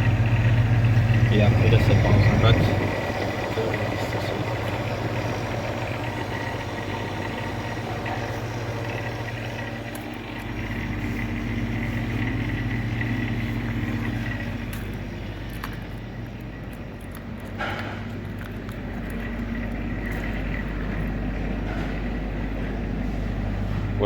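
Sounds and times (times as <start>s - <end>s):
refrigerator compressor humming: 0.0s - 24.0s.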